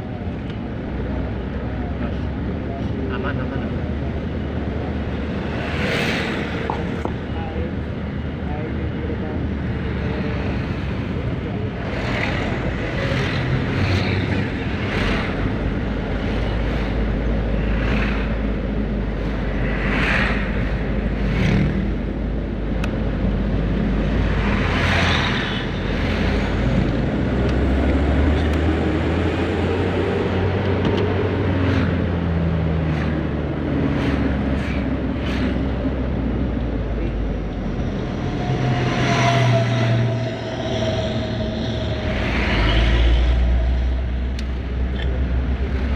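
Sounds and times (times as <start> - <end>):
traffic noise: 0.0 - 45.9.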